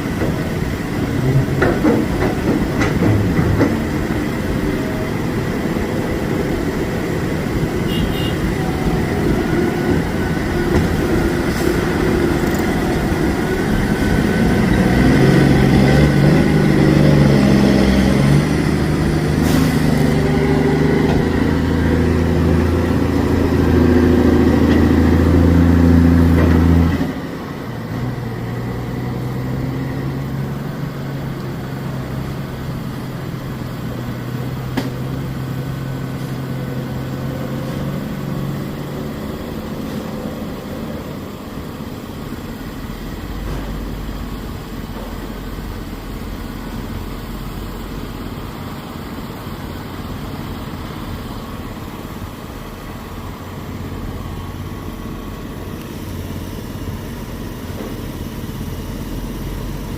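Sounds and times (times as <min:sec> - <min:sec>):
heavy diesel engines droning: 0:00.0 - 0:59.9.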